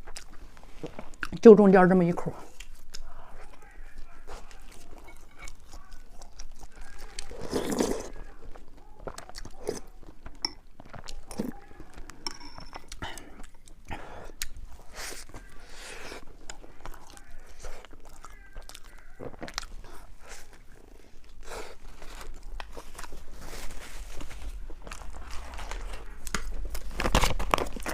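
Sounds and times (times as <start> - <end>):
person chewing and crunching: 0.0 - 1.4, 2.4 - 27.9.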